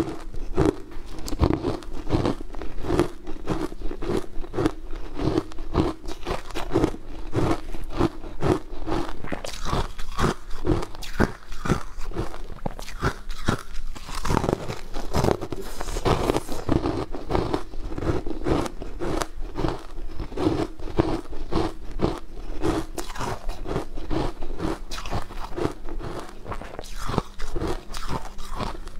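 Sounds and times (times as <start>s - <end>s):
crunching and chewing frozen food: 0.0s - 28.9s.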